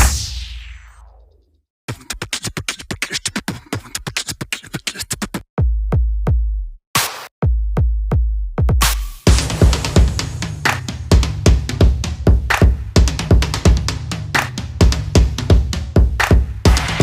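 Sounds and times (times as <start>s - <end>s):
electronic music with drum-machine beat: 0.0s - 1.2s, 1.9s - 17.0s.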